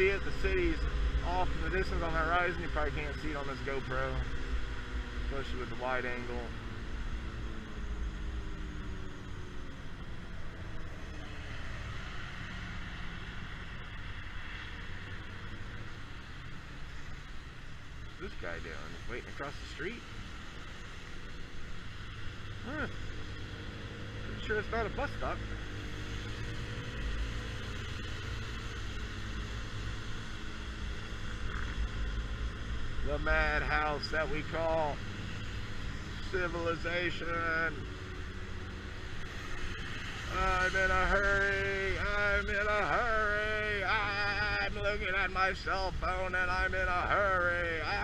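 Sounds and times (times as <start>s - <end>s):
wind and road noise: 0.0s - 48.0s.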